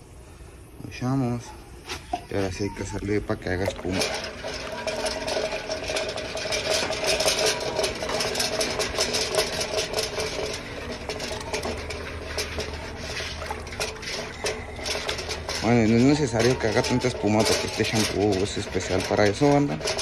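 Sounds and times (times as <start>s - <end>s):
steady mechanical hum: 0.0s - 20.0s
water sloshing in metal bucket: 1.7s - 20.0s.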